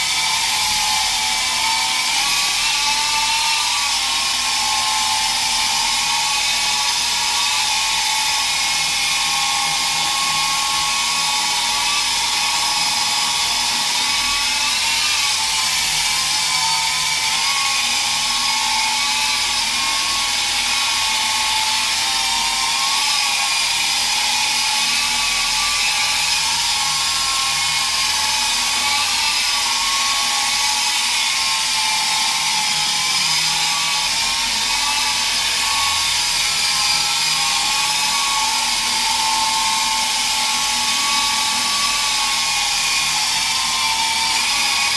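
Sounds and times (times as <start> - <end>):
rc helicopter motor whine: 0.0 - 44.9.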